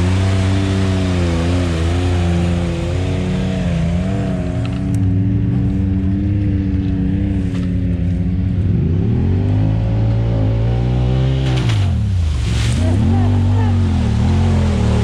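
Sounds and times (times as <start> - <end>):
utility vehicle engine revving: 0.0 - 15.0.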